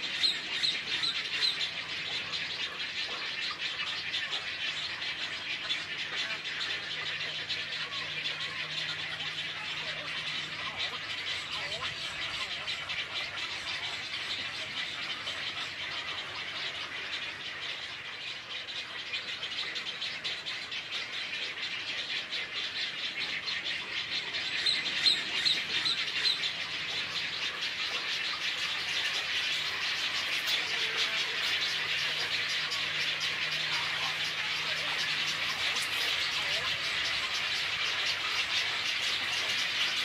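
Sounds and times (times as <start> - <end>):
chatter of many birds: 0.0 - 40.0.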